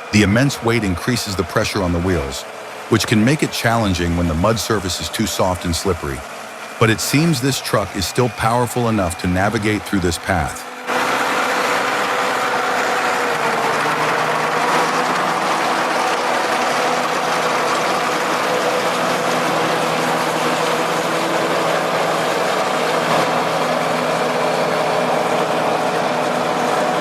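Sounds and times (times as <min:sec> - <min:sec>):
heavy truck engine running: 0:00.0 - 0:27.0.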